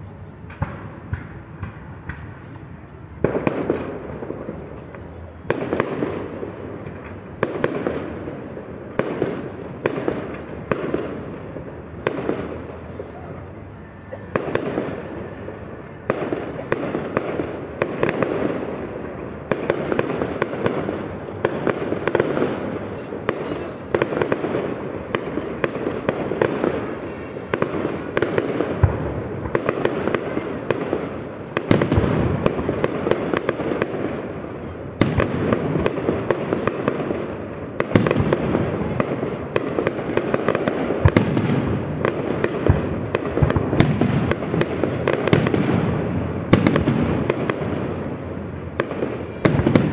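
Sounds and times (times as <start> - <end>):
fireworks bangs and crackles: 0.0 - 49.9
loud firework booms: 0.4 - 49.9.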